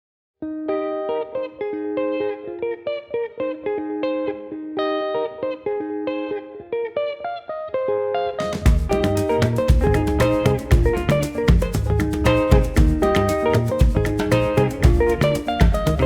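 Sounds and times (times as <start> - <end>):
guitar picking a melody: 0.4 - 16.0.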